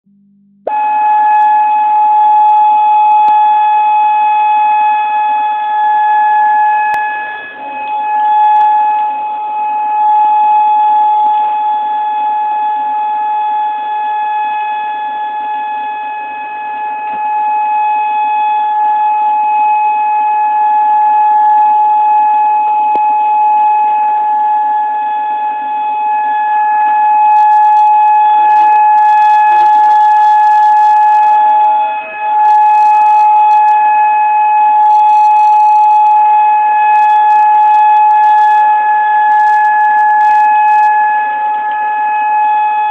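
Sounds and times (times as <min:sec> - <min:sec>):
warning siren steady tone: 0:00.0 - 0:42.9.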